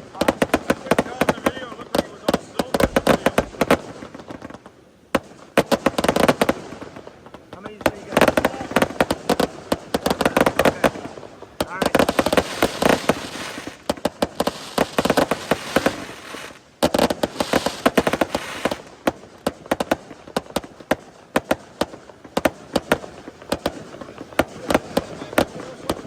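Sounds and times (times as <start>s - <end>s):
firework crackles and pops: 0.0s - 26.0s
fireworks cracks and bangs: 0.0s - 26.0s.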